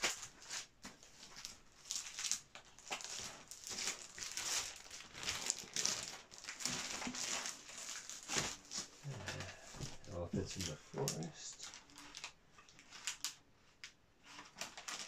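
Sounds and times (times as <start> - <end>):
paper sheets rustling: 0.0 - 15.0.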